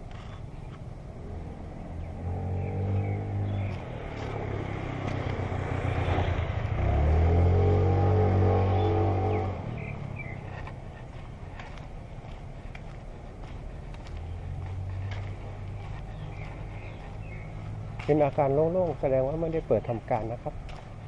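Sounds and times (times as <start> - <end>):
vehicle engine running: 0.0 - 19.5.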